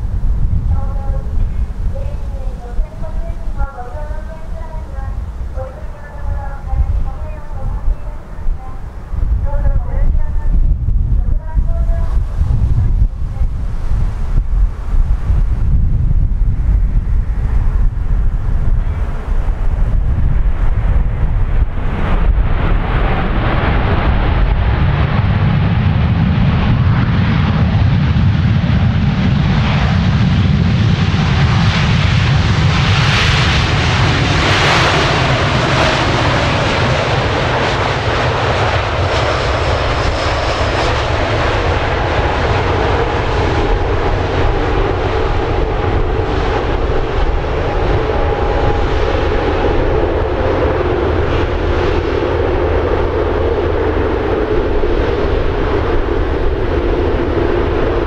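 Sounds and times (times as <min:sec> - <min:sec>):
jet engine whine: 0:00.0 - 0:58.0
jet engines rumbling: 0:00.0 - 0:58.0.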